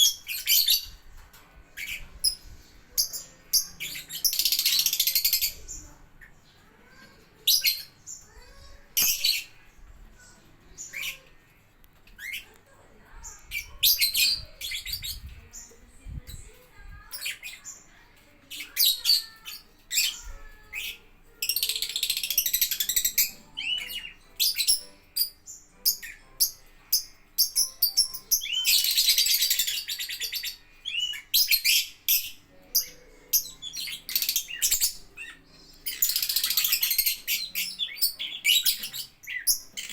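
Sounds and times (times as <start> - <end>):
rapid high-pitched bird chattering: 0.0 - 1.0, 1.7 - 11.4, 13.2 - 39.9
lovebirds chirping: 0.0 - 39.9.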